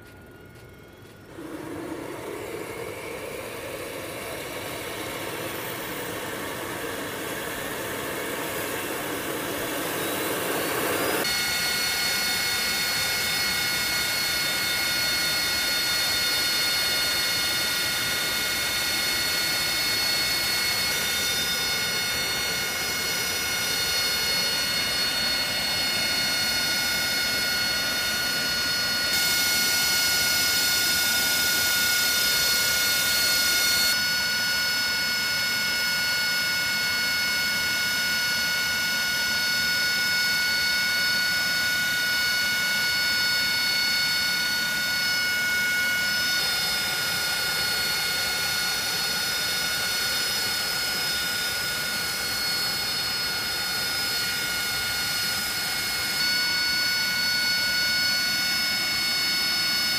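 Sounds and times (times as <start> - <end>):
jet engine whine: 0.0 - 59.9.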